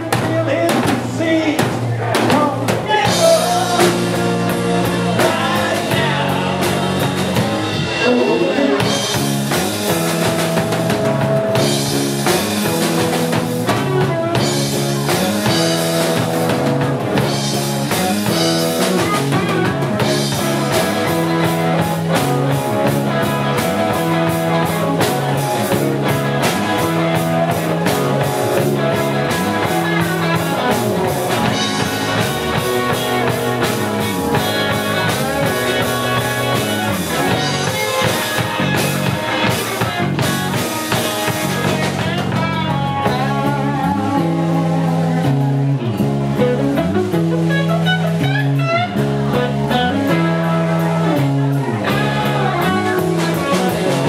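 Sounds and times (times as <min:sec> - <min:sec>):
acoustic and electric guitars: 0:00.0 - 0:54.0
drum kit beat: 0:00.0 - 0:54.0.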